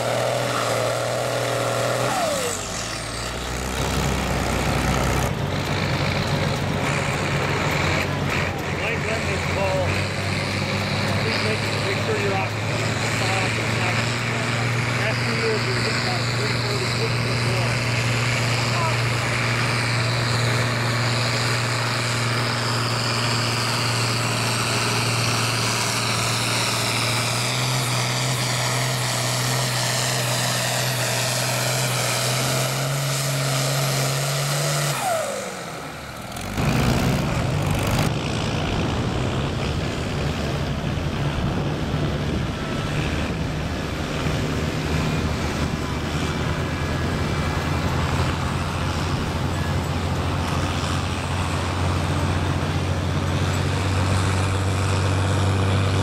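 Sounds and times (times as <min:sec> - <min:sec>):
diesel engine running rough: 0:00.0 - 0:56.0
tractor diesel engine at full load: 0:00.0 - 0:56.0.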